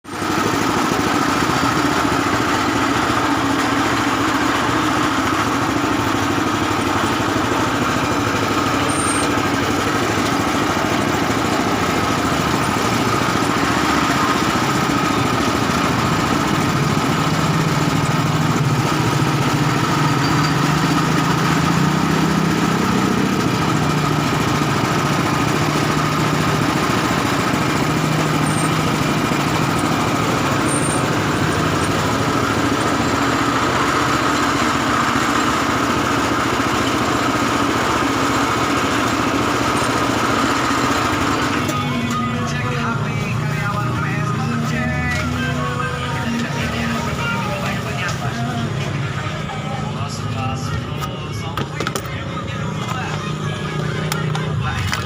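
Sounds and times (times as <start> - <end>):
motor-driven juice press running: 0.1 - 55.0.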